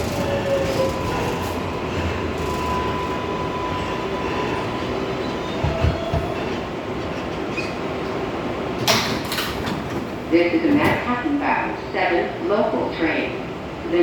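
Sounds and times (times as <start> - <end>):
subway car rumble: 0.0 - 14.0.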